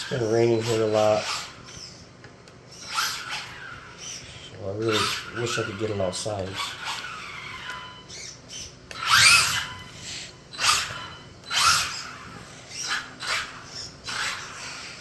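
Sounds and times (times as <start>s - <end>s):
electric motor whining: 0.0s - 2.1s, 2.7s - 15.0s.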